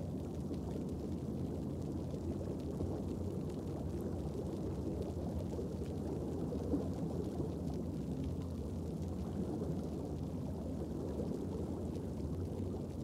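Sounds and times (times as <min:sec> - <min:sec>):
low underwater rumble: 0:00.2 - 0:13.0.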